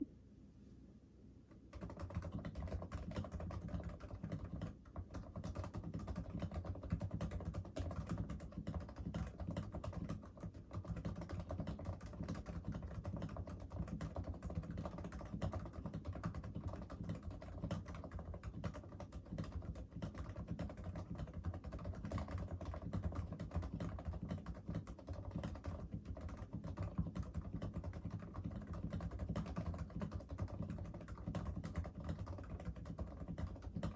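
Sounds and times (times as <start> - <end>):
fast typing on keyboard: 1.7 - 33.9.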